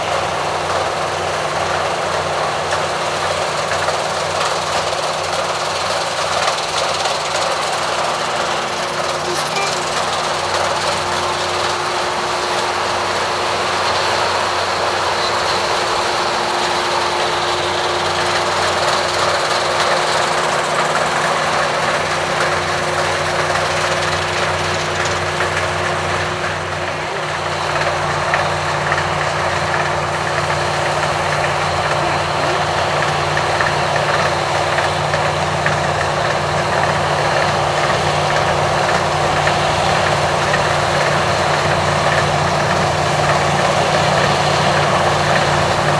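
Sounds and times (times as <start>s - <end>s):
combine harvester clatter: 0.0s - 45.9s
engine hum: 0.0s - 45.9s.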